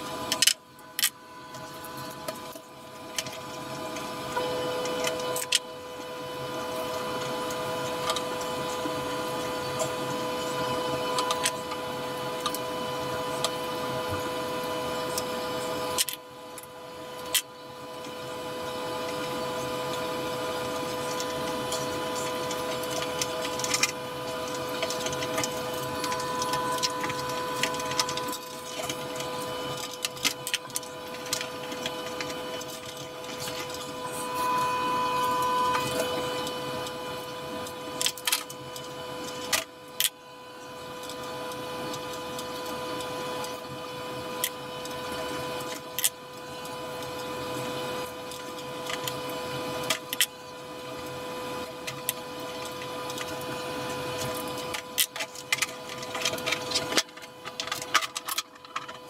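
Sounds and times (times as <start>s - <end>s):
small electric motor humming: 0.0s - 59.0s.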